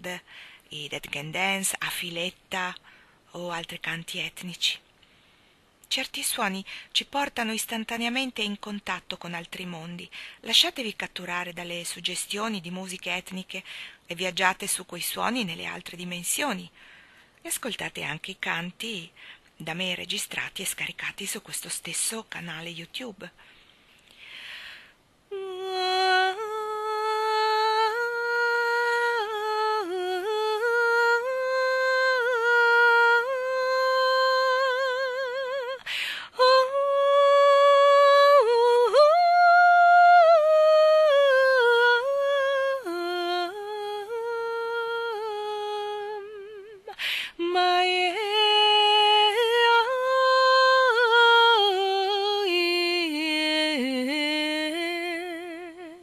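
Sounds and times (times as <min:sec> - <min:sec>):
woman singing a slow chant: 0:00.0 - 0:04.8, 0:05.8 - 0:16.8, 0:25.3 - 0:56.0.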